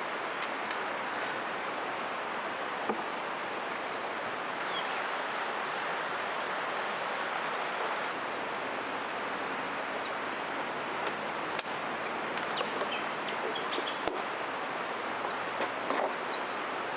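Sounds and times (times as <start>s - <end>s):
river flowing: 0.0s - 16.9s.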